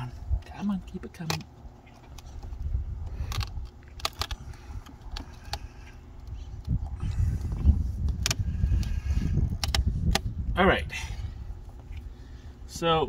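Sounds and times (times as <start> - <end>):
low rumbling: 0.0 - 12.9.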